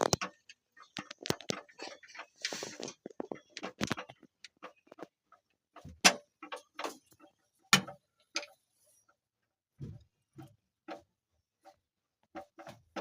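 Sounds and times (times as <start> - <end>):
sharp clicks and knocks: 0.0 - 8.7, 9.8 - 13.0.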